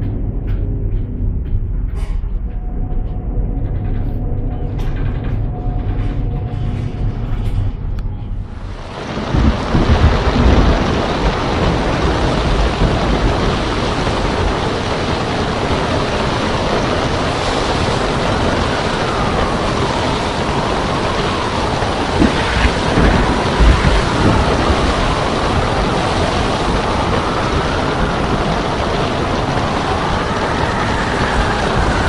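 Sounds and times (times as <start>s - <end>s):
rain and wind rushing: 0.0s - 32.0s
thunder rumbling: 0.0s - 32.0s.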